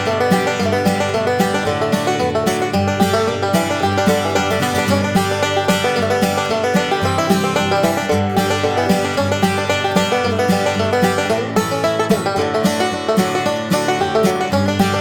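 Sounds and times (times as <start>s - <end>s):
upbeat plucked string music: 0.0s - 15.0s.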